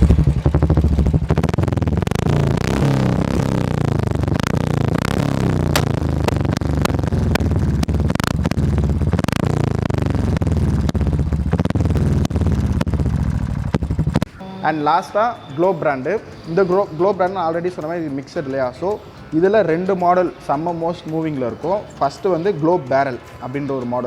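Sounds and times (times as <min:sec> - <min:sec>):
motorcycle engine revving: 0:00.0 - 0:14.4, 0:15.1 - 0:24.0
exhaust cracks: 0:00.0 - 0:24.0.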